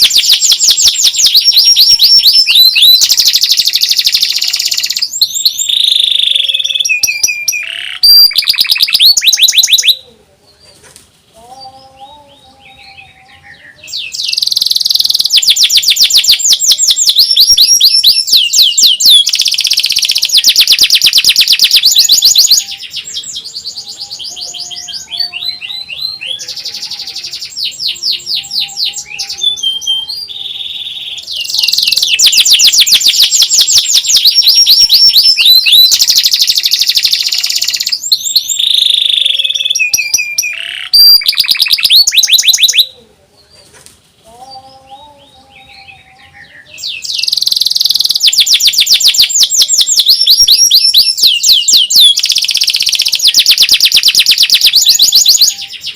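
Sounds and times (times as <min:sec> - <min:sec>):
canary singing trills: 0:00.0 - 0:10.8, 0:11.4 - 0:43.7, 0:44.3 - 0:55.9.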